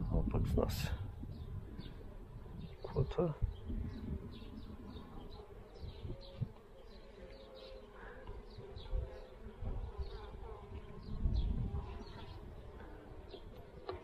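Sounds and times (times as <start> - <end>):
honeybees buzzing: 1.0 - 14.0.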